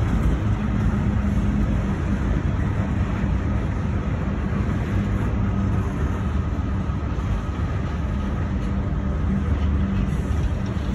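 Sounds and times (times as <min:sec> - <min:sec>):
freight train rumbling on rails: 0:00.0 - 0:10.9.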